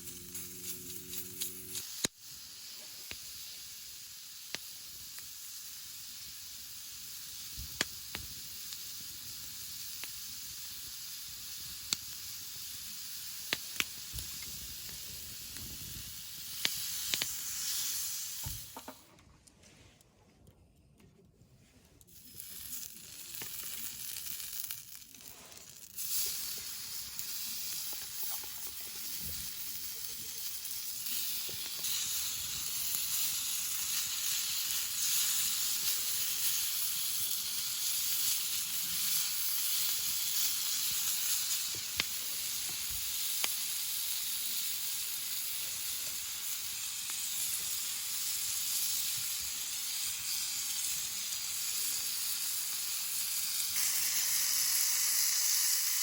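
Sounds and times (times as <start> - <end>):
meat sizzling: 0.0 - 19.1, 22.1 - 56.0
small pops of frying: 0.0 - 19.3, 22.0 - 56.0.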